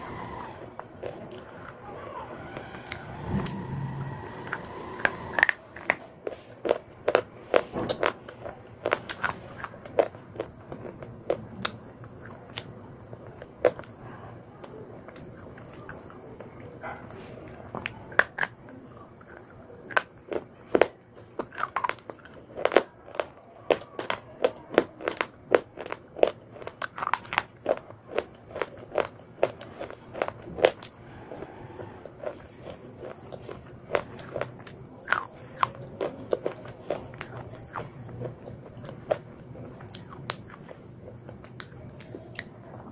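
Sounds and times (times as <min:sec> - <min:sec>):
chewing with dry crunches: 0:00.0 - 0:42.9.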